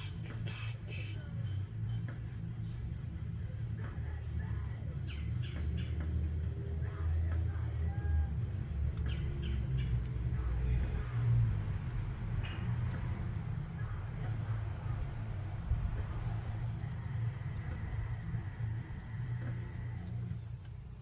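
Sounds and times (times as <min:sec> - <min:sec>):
high insect trill: 0:00.0 - 0:21.0
low rumble: 0:00.0 - 0:21.0.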